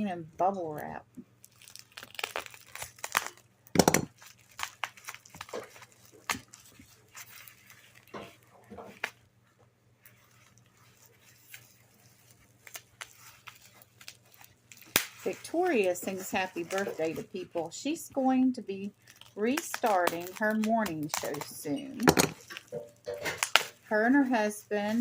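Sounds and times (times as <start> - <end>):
bubble wrap crinkling: 0.6 - 25.0.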